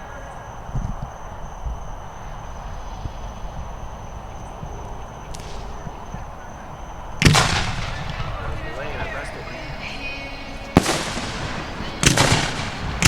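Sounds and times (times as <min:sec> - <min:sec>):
outdoor background noise: 0:00.0 - 0:13.0
firework bang with echo: 0:02.2 - 0:13.0.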